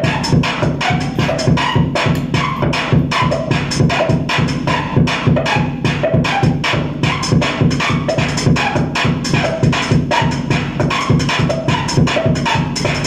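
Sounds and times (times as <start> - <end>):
loud electronic music: 0.0 - 13.0.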